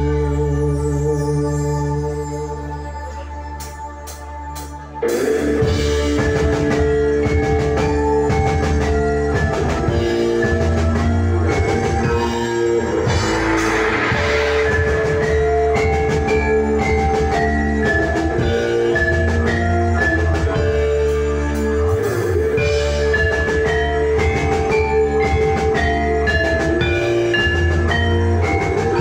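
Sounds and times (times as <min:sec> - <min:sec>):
bass: 0:00.0 - 0:29.0
drums: 0:00.0 - 0:29.0
keyboard: 0:00.0 - 0:29.0
mallet-struck keyed bars melody: 0:00.0 - 0:29.0
electric guitar: 0:03.1 - 0:29.0.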